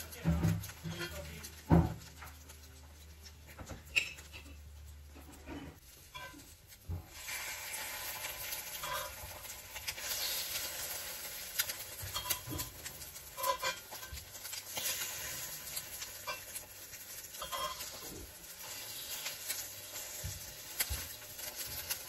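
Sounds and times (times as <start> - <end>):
bread sizzling in a skillet: 0.0 - 22.0
metal spatula scraping a pan: 0.0 - 22.0.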